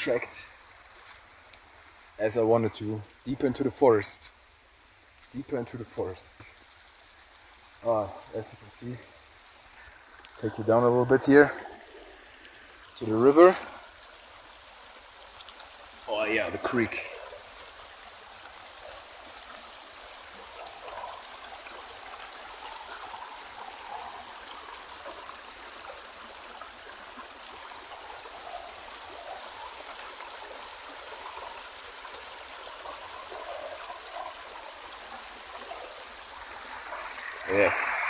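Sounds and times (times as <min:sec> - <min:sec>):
creek flowing over rocks: 0:00.0 - 0:38.0.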